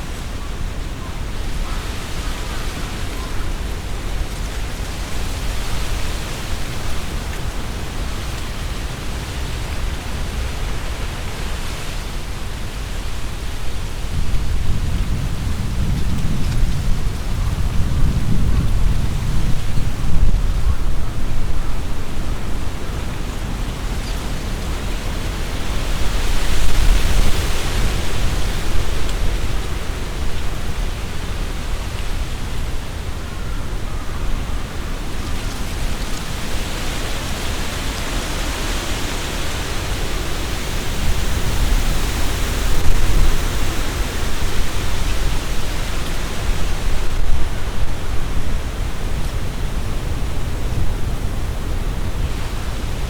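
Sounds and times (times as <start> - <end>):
leaves rustling in wind: 0.0 - 53.0
wind buffeting microphone: 0.0 - 53.0.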